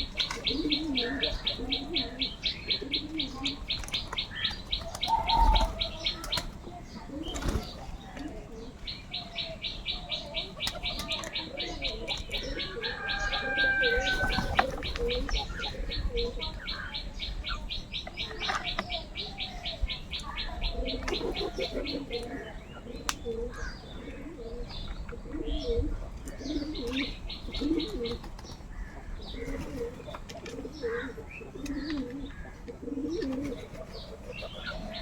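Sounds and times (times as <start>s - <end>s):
lower bird calls: 0.0s - 7.9s, 8.6s - 35.0s.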